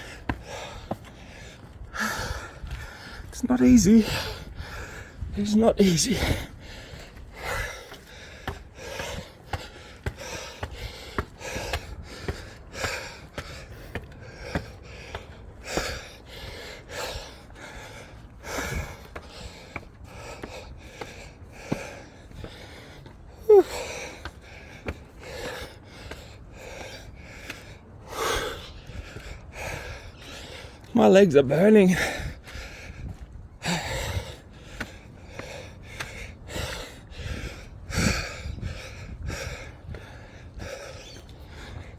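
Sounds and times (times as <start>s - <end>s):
man panting: 0.0s - 41.9s.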